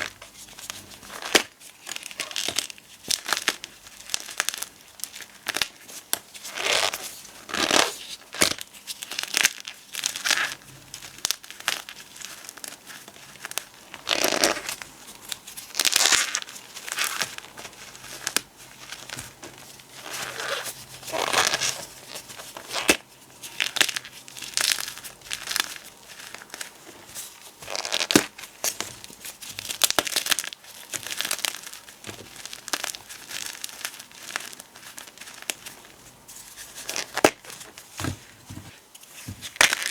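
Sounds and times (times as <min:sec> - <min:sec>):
powder being crushed: 0:06.4 - 0:38.7, 0:39.4 - 0:39.9.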